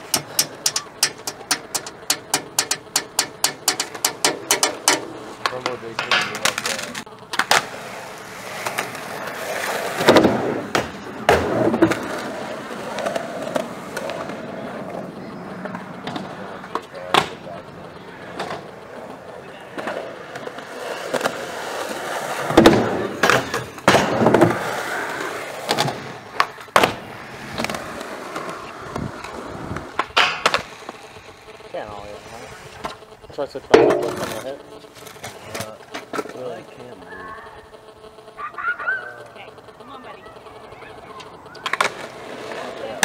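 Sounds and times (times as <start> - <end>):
skateboard clacking on ground: 0.0 - 31.5, 33.7 - 36.4, 40.8 - 43.0
skateboard wheels rolling on concrete: 0.0 - 43.0.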